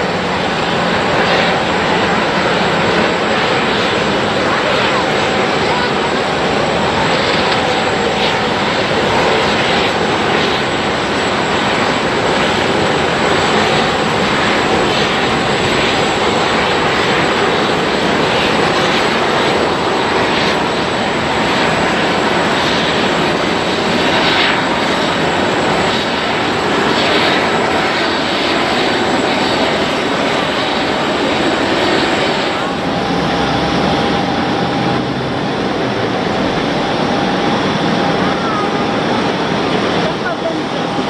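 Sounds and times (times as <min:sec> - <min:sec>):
high thin engine whine: 0:00.0 - 0:41.0
jet engines rushing: 0:00.0 - 0:41.0.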